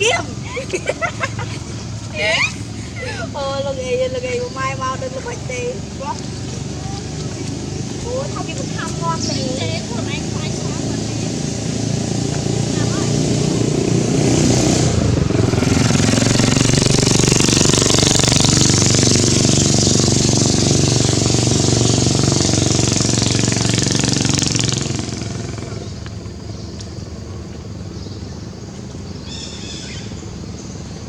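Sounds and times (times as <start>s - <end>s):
vehicle engine running loudly: 0.0s - 31.0s.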